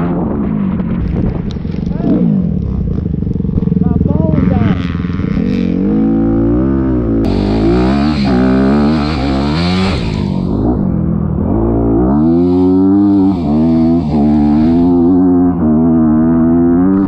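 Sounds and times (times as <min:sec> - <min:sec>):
motorcycle engine revving hard: 0:00.0 - 0:17.0.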